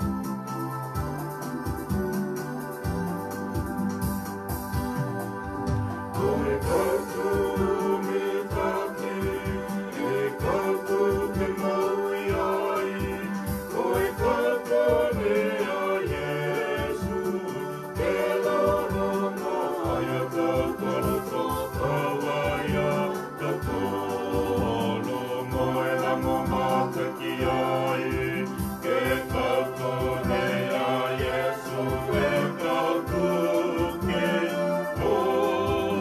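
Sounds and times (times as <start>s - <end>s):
hymn singing: 0.0s - 36.0s
instrumental accompaniment low notes: 0.0s - 36.0s.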